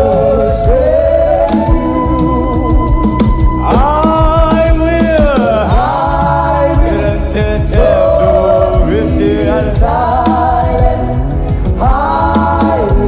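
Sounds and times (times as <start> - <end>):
low instrumental backing: 0.0 - 13.0
voices singing gospel: 0.0 - 13.0.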